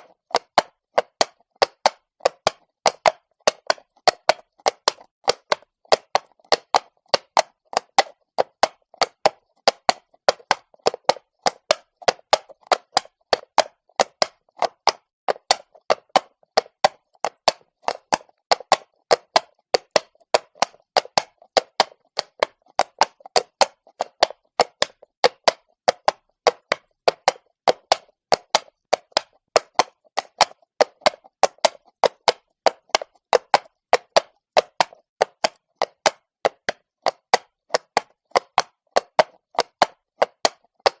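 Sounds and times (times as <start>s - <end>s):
horse hooves clopping on stone: 0.0s - 41.0s.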